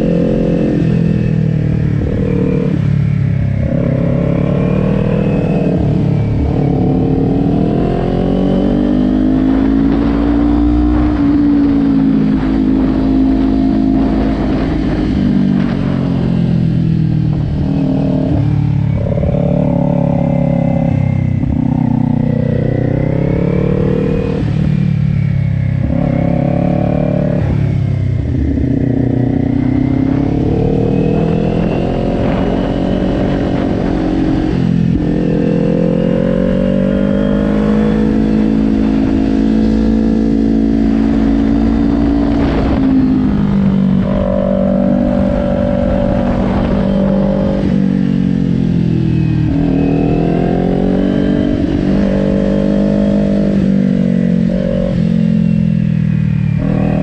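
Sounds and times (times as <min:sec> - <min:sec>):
motorcycle engine revving: 0:00.0 - 0:57.0
steady low wind rush: 0:00.0 - 0:57.0.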